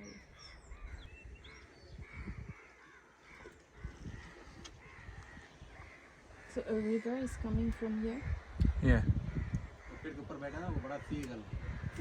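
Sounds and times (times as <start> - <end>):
crows cawing: 0.3 - 12.0.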